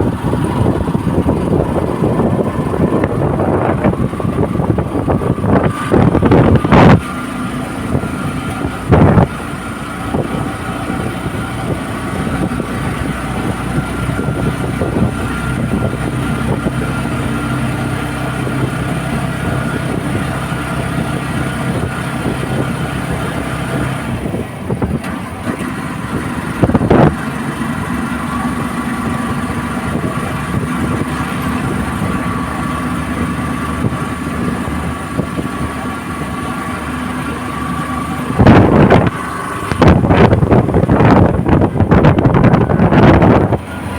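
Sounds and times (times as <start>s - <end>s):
vehicle engine running: 0.0s - 43.9s
wind noise: 0.0s - 43.9s.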